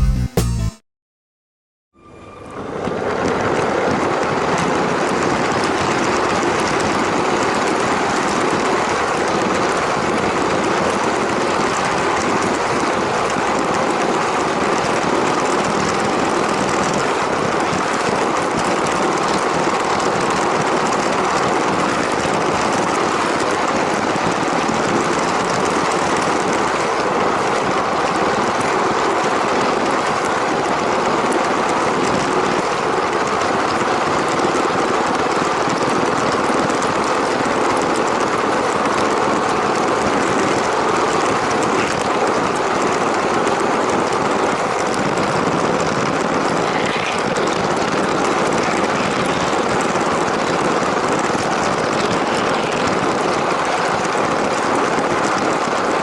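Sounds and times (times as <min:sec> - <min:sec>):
toy train whirring and rattling: 0:06.0 - 0:56.0.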